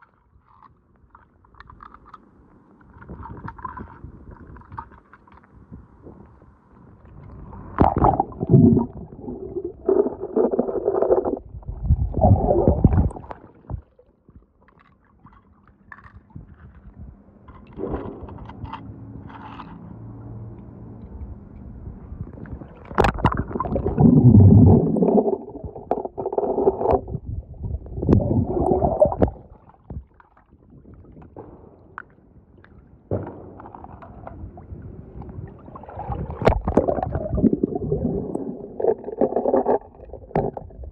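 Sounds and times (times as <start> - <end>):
pool water gurgling and sloshing: 0.0 - 40.9.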